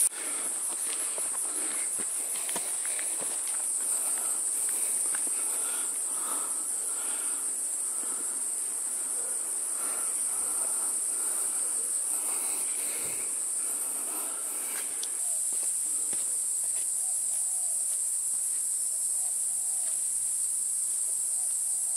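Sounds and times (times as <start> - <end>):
forest insects droning: 0.0 - 21.9.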